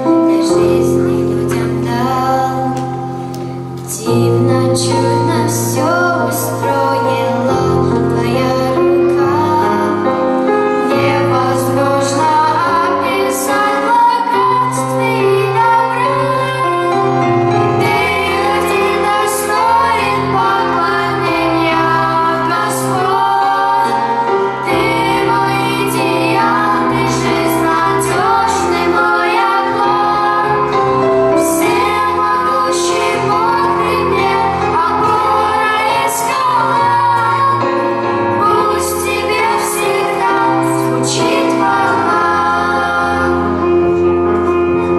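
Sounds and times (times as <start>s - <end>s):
high voices singing: 0.0s - 44.9s
instrumental accompaniment: 0.0s - 44.9s.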